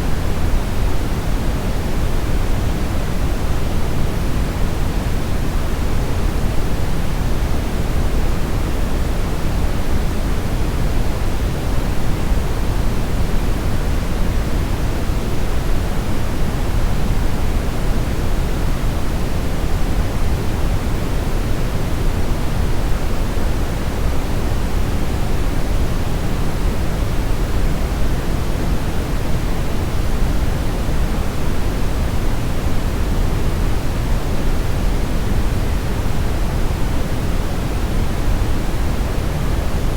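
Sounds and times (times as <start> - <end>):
brown noise rumbling hiss: 0.0 - 39.9.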